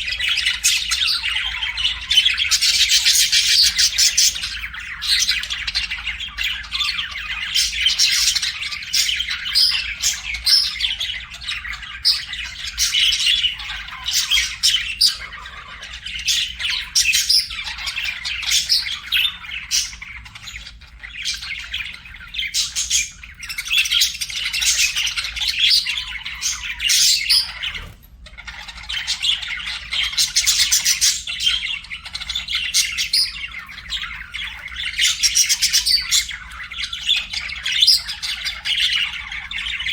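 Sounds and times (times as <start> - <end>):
bird squawks: 0.0 - 39.9
budgerigars chattering: 0.0 - 39.9.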